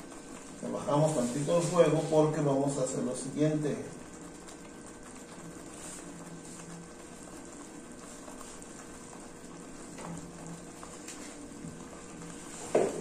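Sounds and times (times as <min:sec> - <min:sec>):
sauce bubbling in frying pan: 0:00.0 - 0:13.0.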